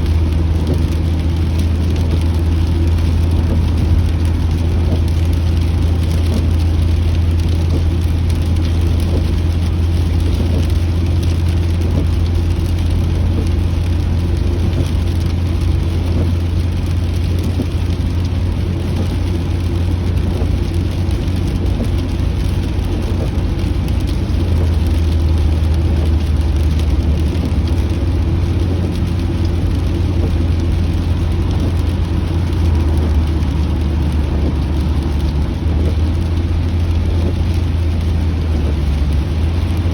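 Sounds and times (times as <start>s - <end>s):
car road and engine rumble: 0.0s - 39.9s
rain pattering on car: 0.0s - 39.9s.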